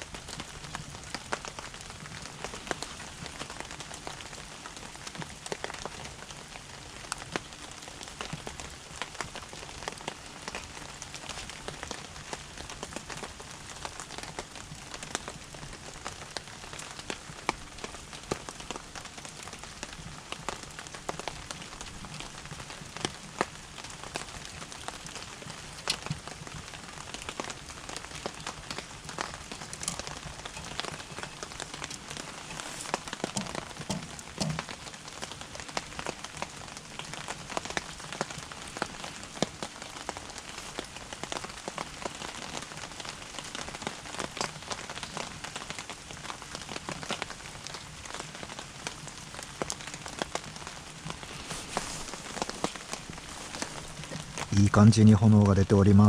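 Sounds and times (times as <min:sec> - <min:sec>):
firewood crackling and popping: 0:00.0 - 0:55.8.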